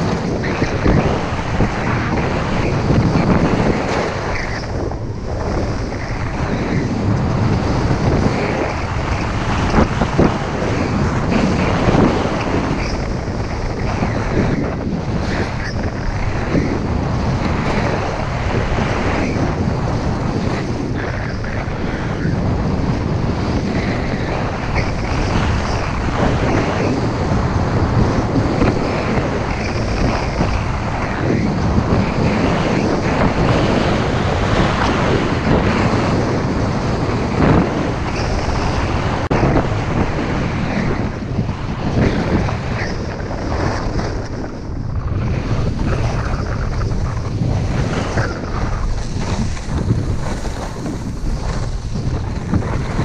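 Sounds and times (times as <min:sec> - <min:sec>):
skis scraping on snow: 0:00.0 - 0:53.0
wind rush on microphone: 0:00.0 - 0:53.0.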